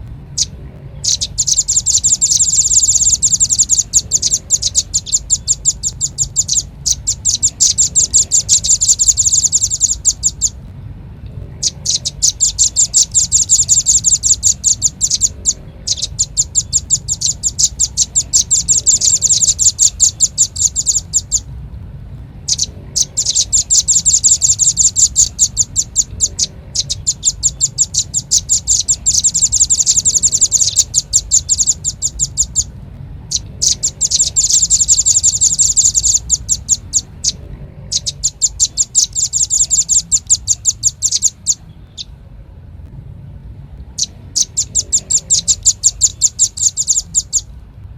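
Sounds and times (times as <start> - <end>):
bird trilling high chips: 0.3 - 10.6, 11.6 - 21.5, 22.4 - 32.7, 33.3 - 42.1, 44.0 - 47.5.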